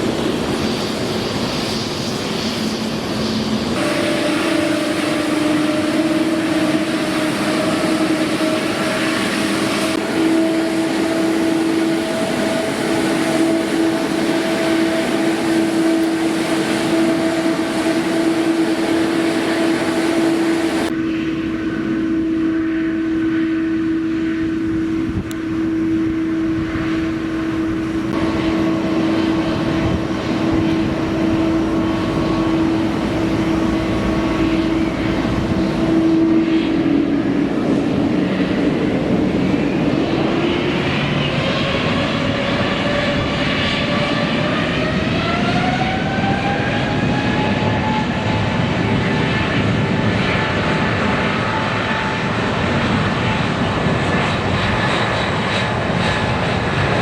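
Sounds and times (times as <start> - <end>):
airliner engines droning: 0.0 - 57.0.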